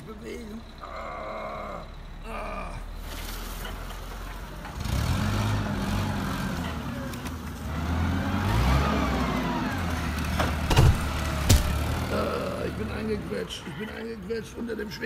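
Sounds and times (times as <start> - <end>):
forklift engine revving: 0.0 - 13.5.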